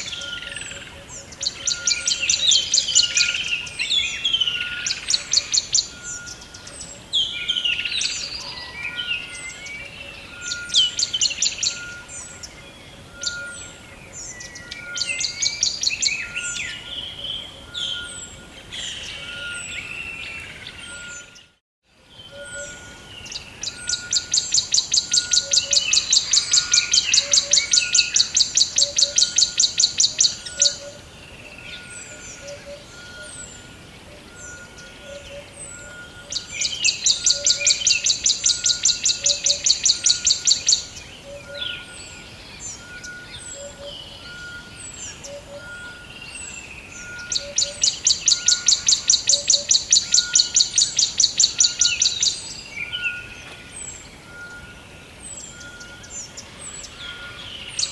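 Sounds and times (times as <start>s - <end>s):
birds chirping: 0.0s - 57.9s.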